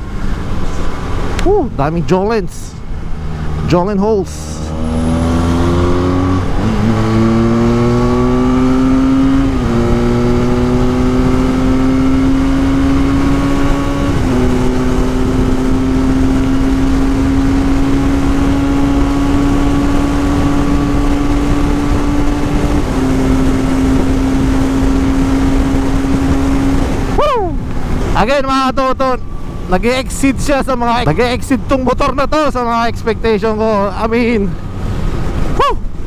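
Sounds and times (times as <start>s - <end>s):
motorcycle engine at speed: 2.8s - 36.0s
wind noise: 4.5s - 36.0s.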